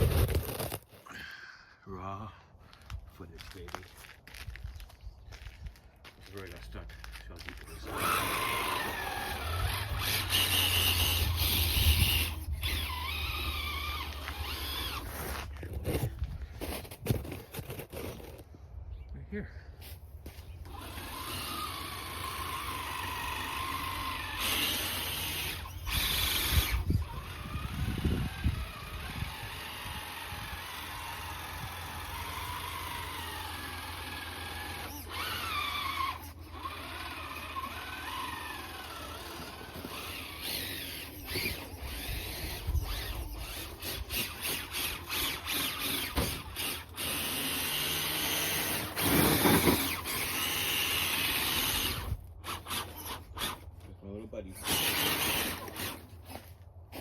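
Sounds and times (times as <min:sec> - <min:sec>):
electric motor and gear whine: 0:06.1 - 0:16.3, 0:20.2 - 0:57.0.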